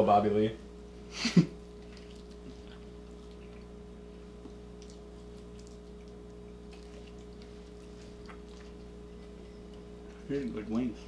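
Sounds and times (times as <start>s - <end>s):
low electrical hum: 0.0s - 11.0s
people chewing: 1.3s - 10.8s.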